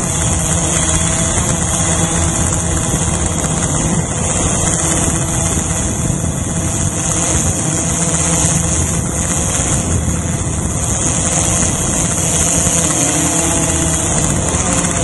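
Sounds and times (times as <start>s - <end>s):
drone motors buzzing and whining: 0.0s - 15.0s.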